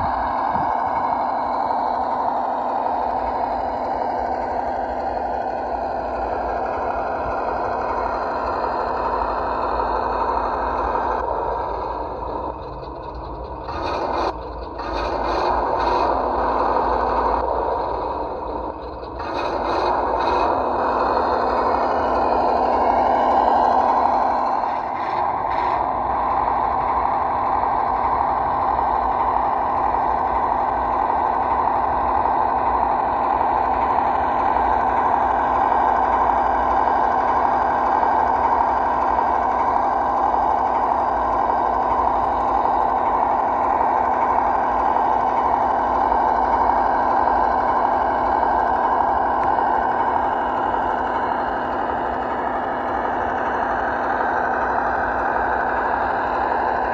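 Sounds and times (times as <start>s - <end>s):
simulated engine from small speaker: 0.0s - 56.9s.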